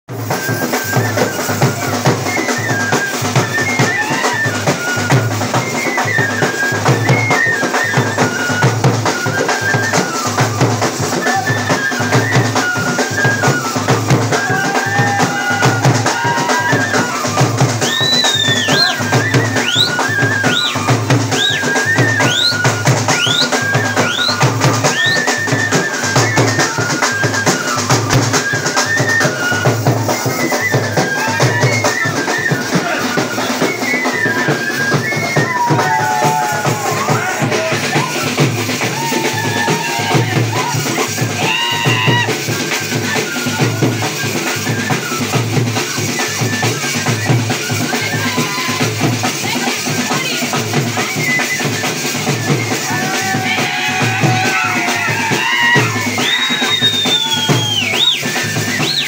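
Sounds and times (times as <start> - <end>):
short rising whistles: 0.1 - 49.1, 50.9 - 59.0
hand drums beating: 0.1 - 59.0.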